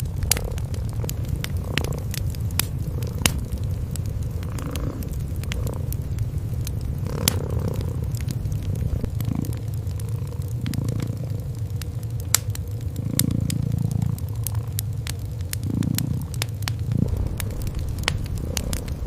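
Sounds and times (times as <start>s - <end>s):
cats purring: 0.0s - 19.0s
wood fire crackling: 0.0s - 19.0s.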